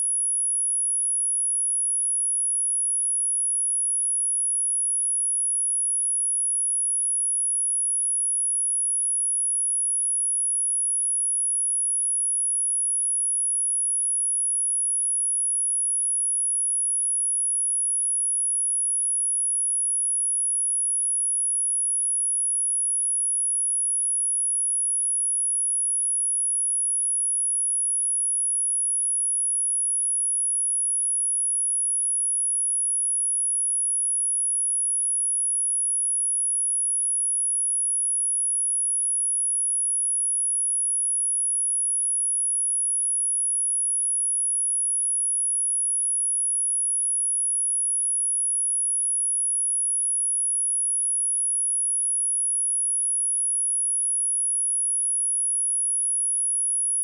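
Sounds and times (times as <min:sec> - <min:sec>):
high-pitched sine test tone: 0:00.0 - 0:57.0.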